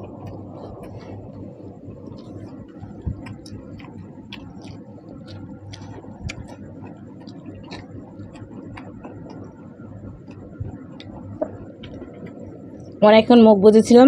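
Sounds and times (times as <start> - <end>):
chewing clicks and smacks: 0.0 - 13.0
low steady hum: 0.0 - 14.0.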